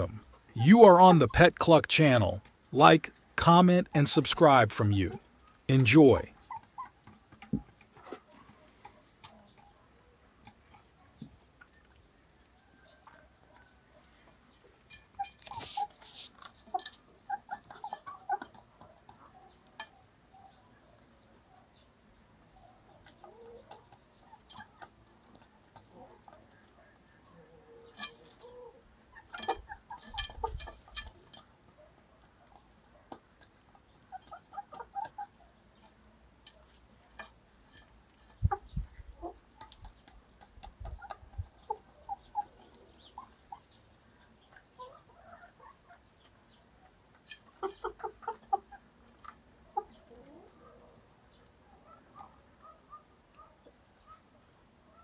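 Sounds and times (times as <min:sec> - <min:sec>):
young chickens clucking: 0:00.0 - 0:55.0.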